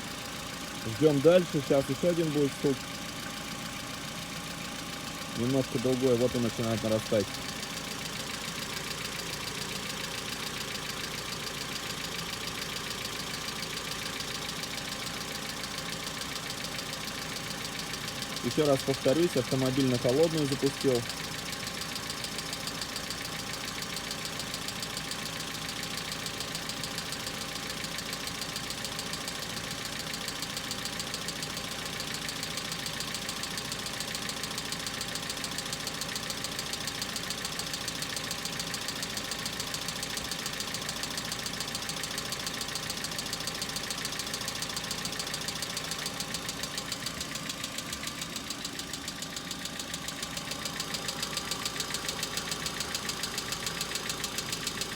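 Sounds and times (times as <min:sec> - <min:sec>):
car engine idling: 0:00.0 - 0:54.9
rapid lifter ticking: 0:00.4 - 0:54.9.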